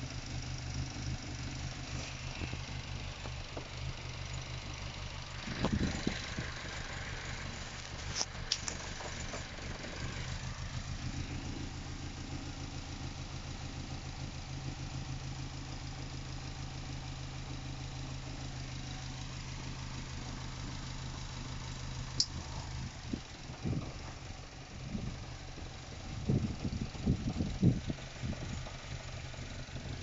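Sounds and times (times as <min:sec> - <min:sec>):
car engine idling roughly: 0:00.0 - 0:30.0.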